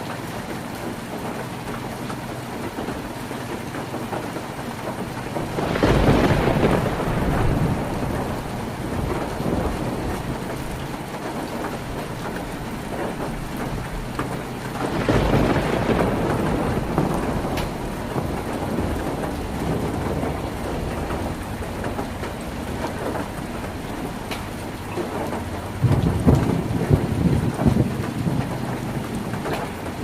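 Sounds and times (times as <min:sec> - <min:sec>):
heavy rain on a tin roof: 0:00.0 - 0:30.0
thunder rumbling: 0:00.9 - 0:30.0.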